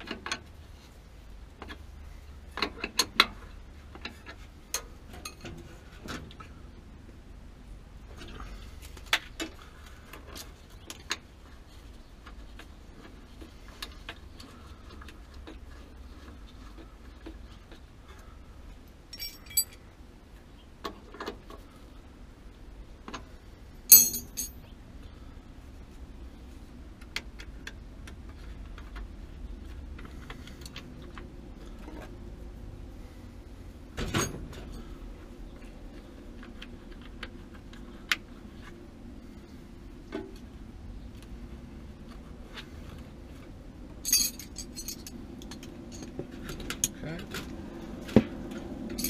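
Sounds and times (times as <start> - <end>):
low background noise: 0.0 - 49.0.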